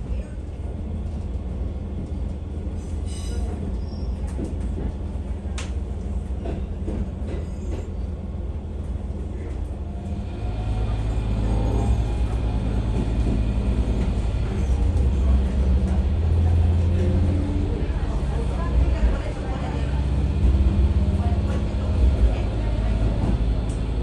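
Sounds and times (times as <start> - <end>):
diesel railcar rumbling: 0.0 - 24.0.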